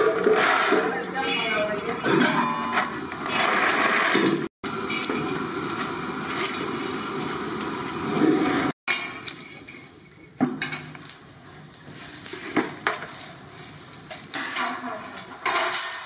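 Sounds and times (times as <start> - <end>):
nuts dry-roasting on iron pan: 0.0 - 16.0.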